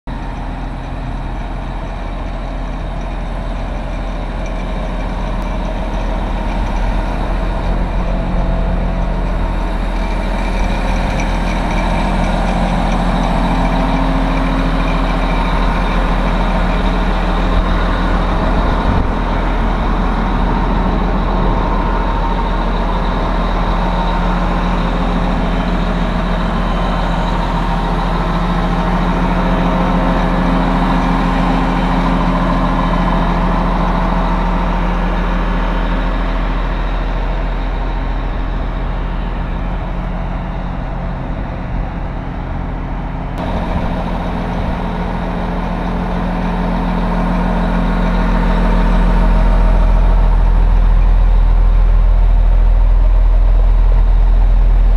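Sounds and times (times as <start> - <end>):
diesel engine idling: 0.1 - 54.9.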